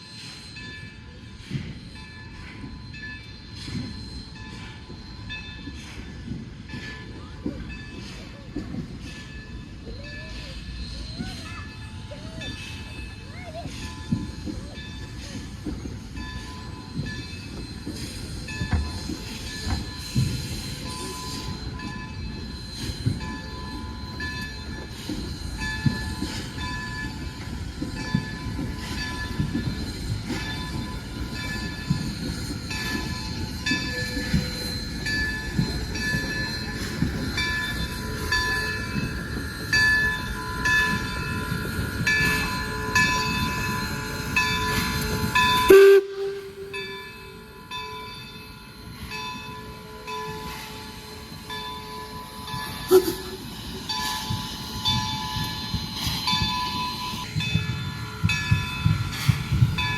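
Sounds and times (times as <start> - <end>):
train wheels clicking over rail joints: 0.2 - 59.9.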